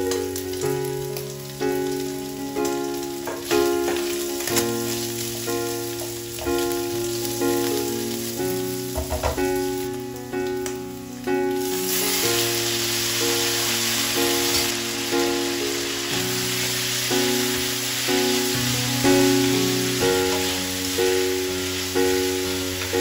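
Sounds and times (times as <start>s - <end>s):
background music of held notes: 0.0s - 23.0s
food sizzling in wok: 0.0s - 23.0s.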